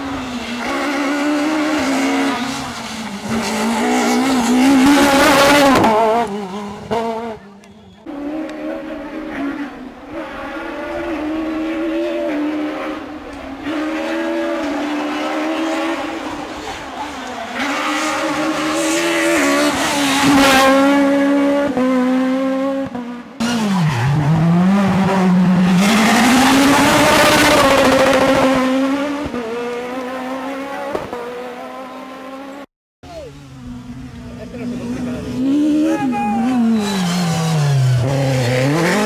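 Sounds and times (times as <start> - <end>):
rally car engine at high revs: 0.0 - 39.0.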